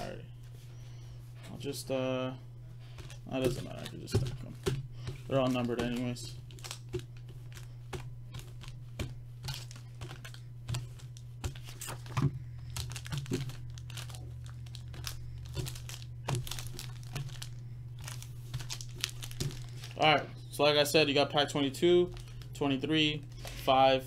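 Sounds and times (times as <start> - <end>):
steady low hum: 0.0 - 24.0
foil wrappers crinkling: 2.8 - 23.8.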